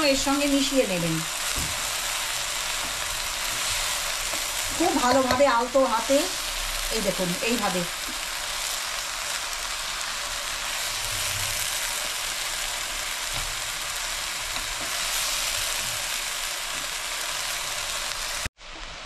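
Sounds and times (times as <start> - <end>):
fried rice sizzling in a wok: 0.0 - 19.0
spatula scraping wok: 0.4 - 18.5.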